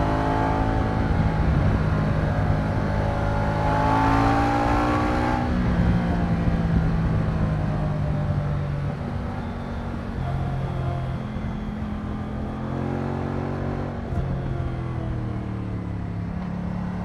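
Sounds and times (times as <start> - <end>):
motorcycle engine revving and shifting: 0.0 - 8.0, 8.6 - 17.0.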